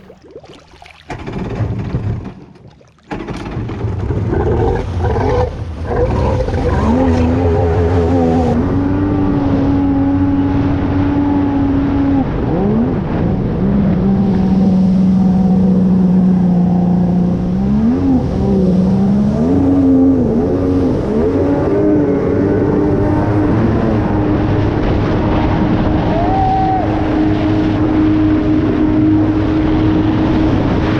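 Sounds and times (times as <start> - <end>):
jet ski engine running: 3.2 - 30.9.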